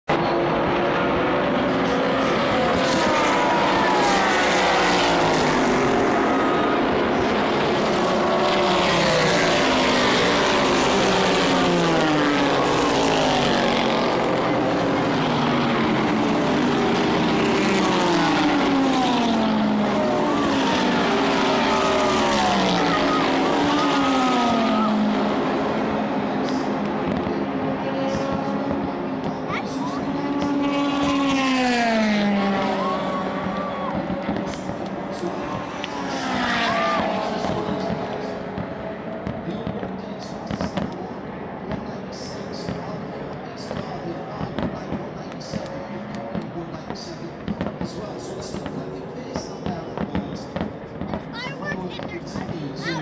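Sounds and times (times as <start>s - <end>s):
race cars passing at speed: 0.1s - 53.0s.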